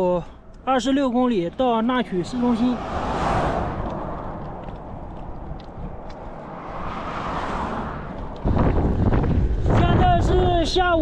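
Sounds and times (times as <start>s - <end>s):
highway traffic passing: 0.0s - 11.0s
wind buffeting microphone: 2.2s - 11.0s.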